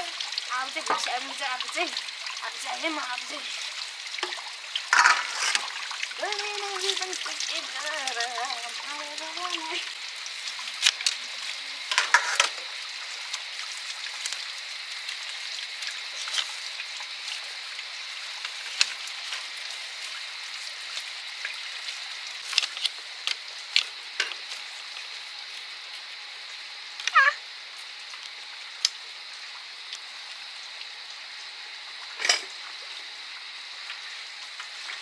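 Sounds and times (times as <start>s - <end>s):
insects hissing: 0.0s - 35.0s.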